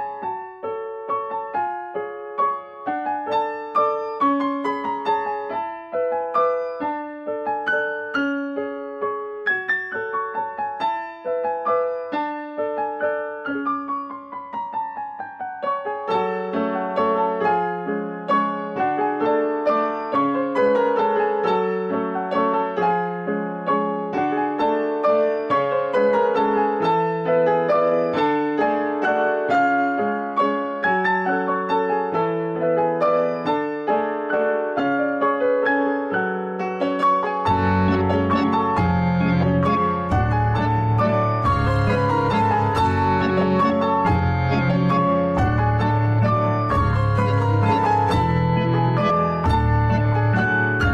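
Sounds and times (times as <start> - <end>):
slow piano melody: 0.0 - 50.9.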